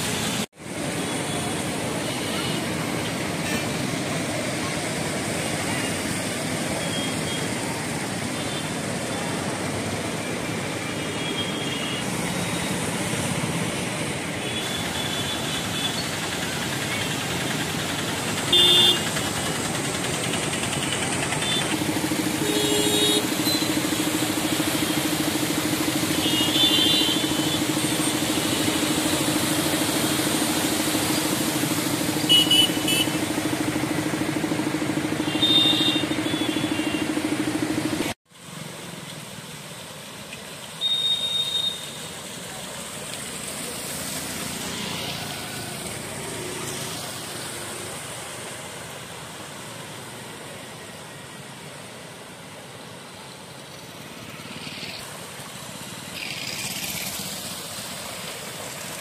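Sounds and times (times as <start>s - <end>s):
motorcycle and rickshaw engines: 0.0s - 59.0s
tyres wading through floodwater: 0.0s - 59.0s.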